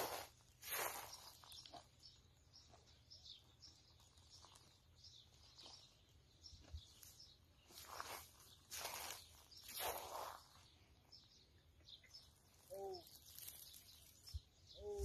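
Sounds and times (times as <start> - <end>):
faint small birds chirping: 0.0 - 15.0.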